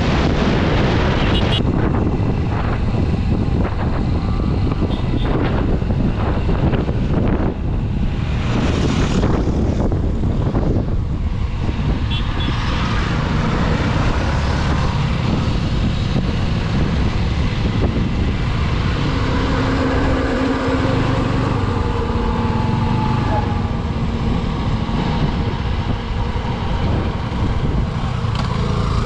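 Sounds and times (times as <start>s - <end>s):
wind on microphone: 0.0s - 29.0s.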